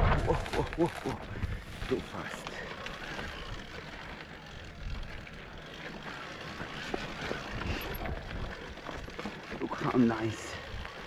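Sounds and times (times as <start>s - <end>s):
electric bike rumble on dirt: 0.0s - 11.0s.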